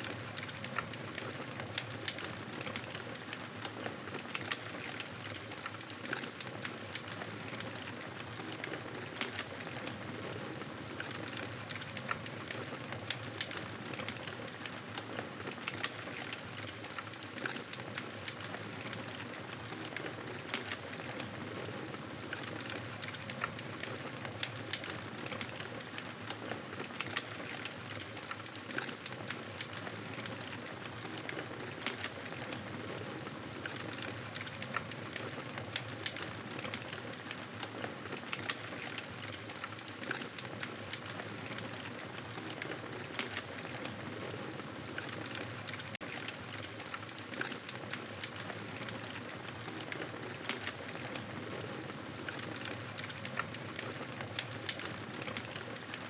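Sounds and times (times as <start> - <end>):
campfire crackling: 0.1 - 56.0.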